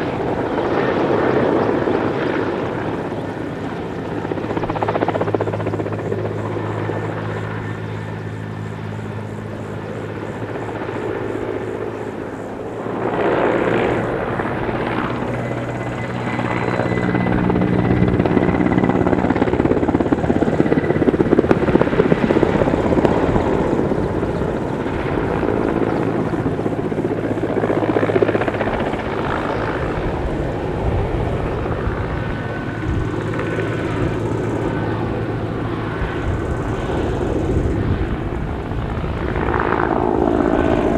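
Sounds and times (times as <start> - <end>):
helicopter rotor and turbine: 0.0 - 40.9.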